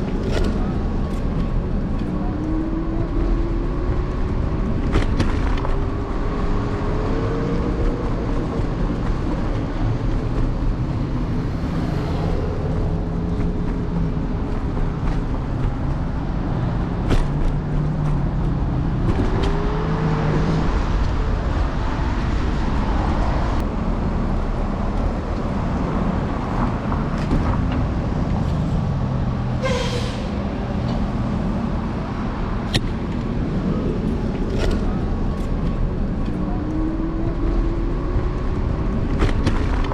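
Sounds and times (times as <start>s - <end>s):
street traffic: 0.0s - 39.9s.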